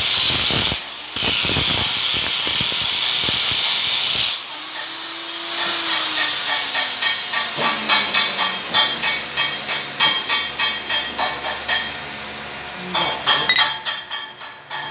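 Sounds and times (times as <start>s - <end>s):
welding arc crackling hiss: 0.0s - 13.0s.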